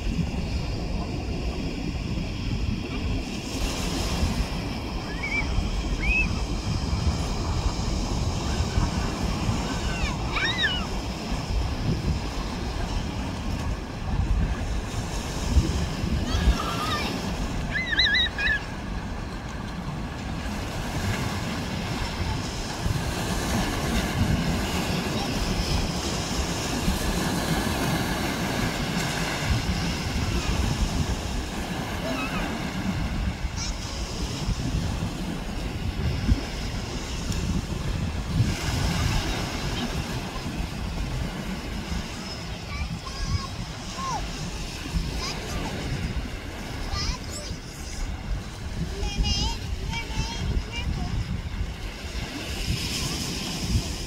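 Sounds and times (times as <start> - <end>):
wind gusting on microphone: 0.0 - 54.0.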